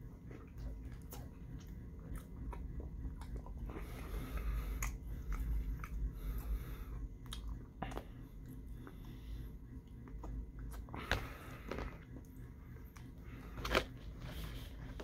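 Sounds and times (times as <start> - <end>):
chewing with wet mouth smacks: 0.0 - 13.8.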